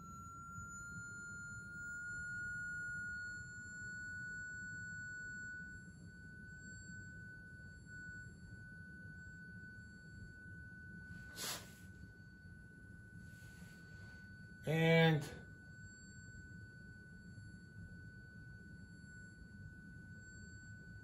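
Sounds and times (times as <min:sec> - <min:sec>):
rising sine tone: 0:00.0 - 0:21.0.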